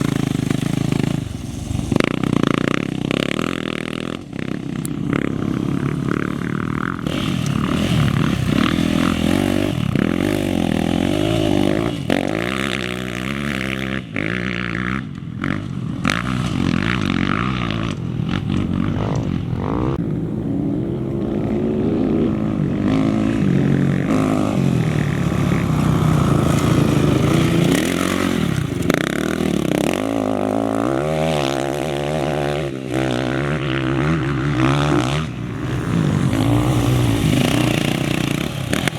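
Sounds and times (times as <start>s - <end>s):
off-road racing engines: 0.0s - 38.9s.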